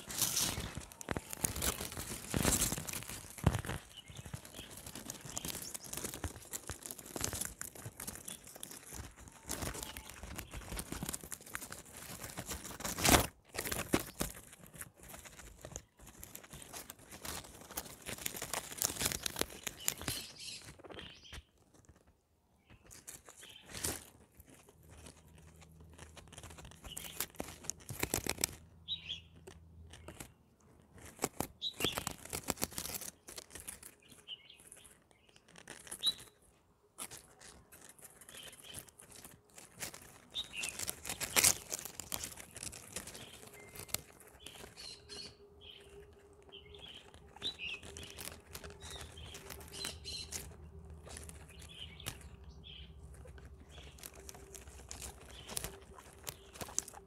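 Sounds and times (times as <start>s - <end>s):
guinea pigs chewing plants: 0.0s - 57.0s.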